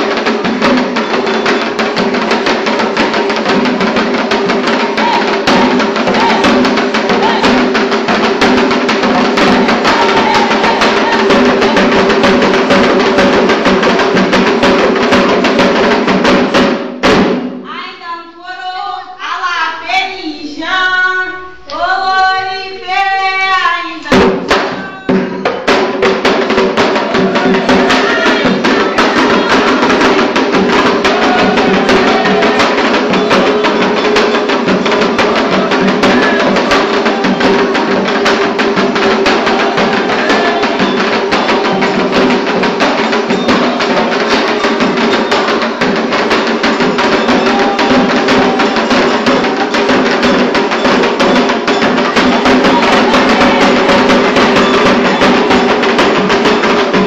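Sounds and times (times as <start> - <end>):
ritual singing: 0.0 - 16.7, 17.6 - 57.0
fast hand drumming: 0.0 - 17.5, 24.1 - 57.0.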